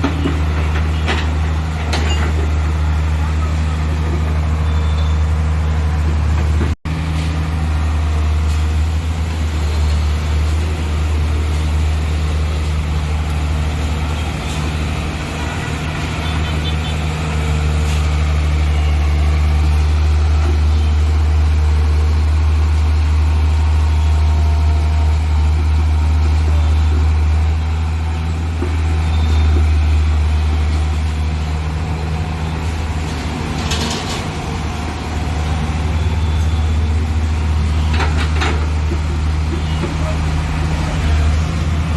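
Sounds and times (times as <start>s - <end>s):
heavy diesel engine droning: 0.0s - 41.9s.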